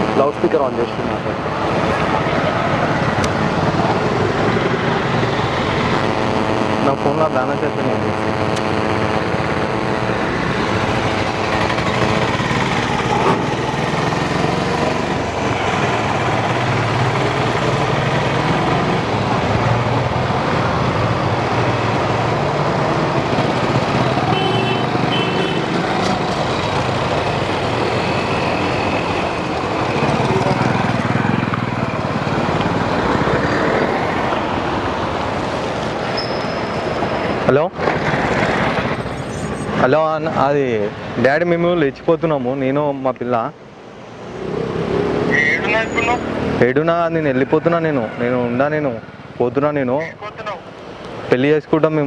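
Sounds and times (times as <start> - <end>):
vehicle engines passing: 0.0 - 52.0.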